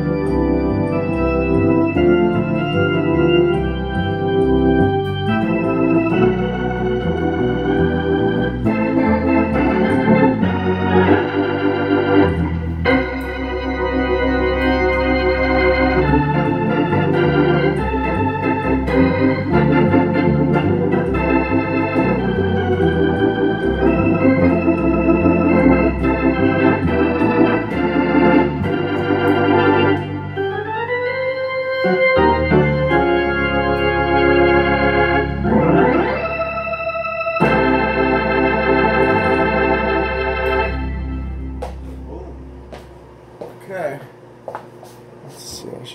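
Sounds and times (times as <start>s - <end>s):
organ chords: 0.0s - 45.9s.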